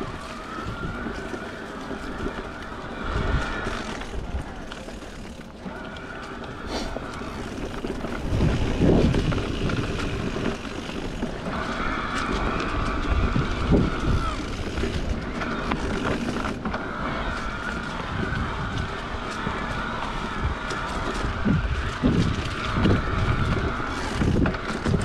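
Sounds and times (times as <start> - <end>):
tyre rumble on dirt trail: 0.0 - 25.0
wind buffeting microphone: 0.0 - 25.0.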